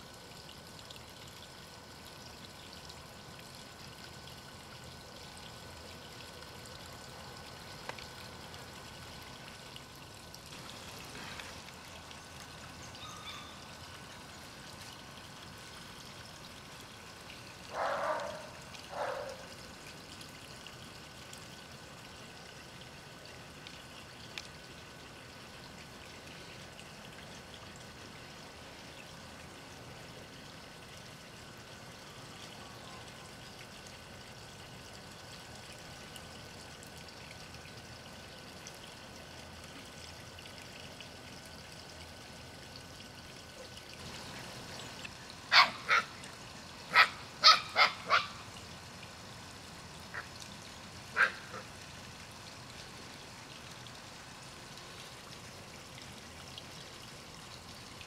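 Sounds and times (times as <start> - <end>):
water trickling and pouring: 0.0 - 58.0.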